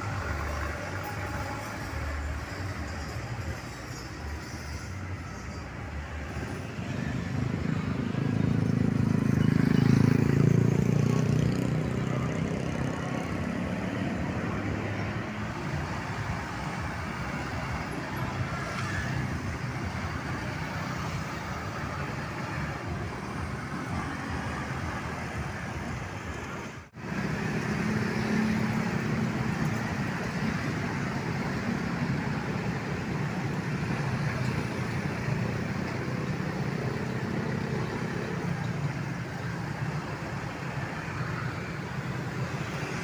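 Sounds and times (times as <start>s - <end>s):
steady traffic noise: 0.0s - 43.0s.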